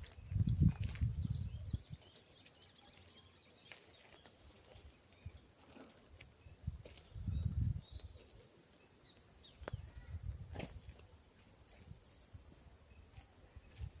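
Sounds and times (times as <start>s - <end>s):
bird chirps: 0.0s - 13.8s.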